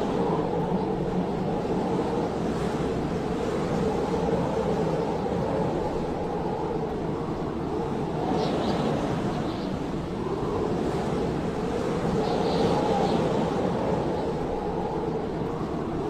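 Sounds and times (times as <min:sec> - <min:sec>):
blizzard wind howling: 0:00.0 - 0:16.0
whistling wind gusts: 0:00.0 - 0:16.0.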